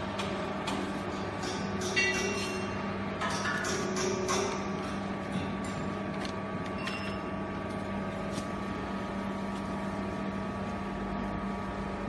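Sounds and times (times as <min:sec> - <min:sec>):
baler motor and pump humming: 0:00.0 - 0:12.0.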